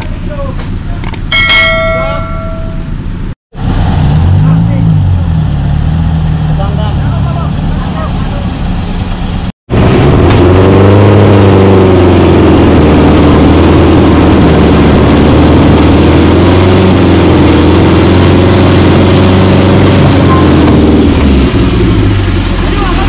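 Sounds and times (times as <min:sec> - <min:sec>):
engine running at raised revs: 0:03.5 - 0:23.0.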